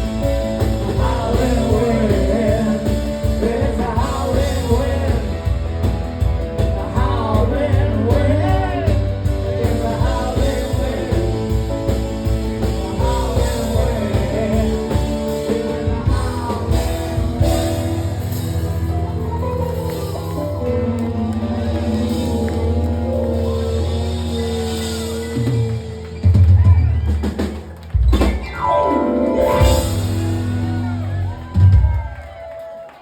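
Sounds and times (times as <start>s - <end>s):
rock band playing: 0.0s - 32.5s.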